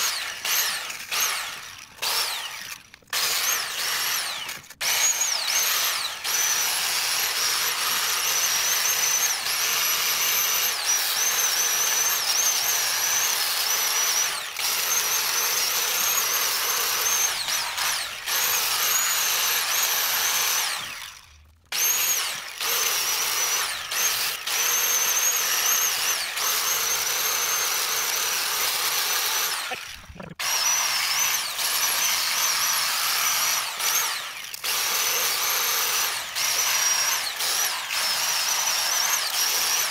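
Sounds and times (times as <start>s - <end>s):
power tool wire wheel whining: 0.0s - 39.9s.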